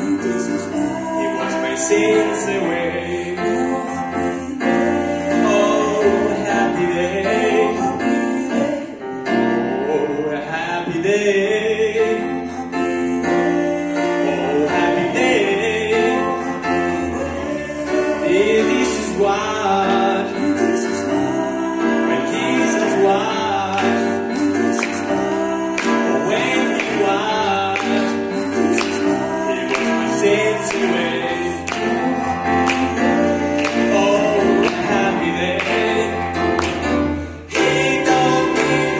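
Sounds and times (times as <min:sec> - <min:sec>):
man singing into a microphone: 0:00.0 - 0:36.6
grand piano: 0:00.0 - 0:38.9.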